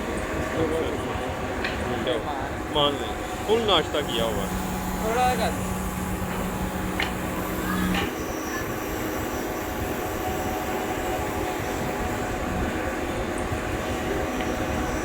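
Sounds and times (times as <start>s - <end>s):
workshop machinery rumbling: 0.0s - 15.0s.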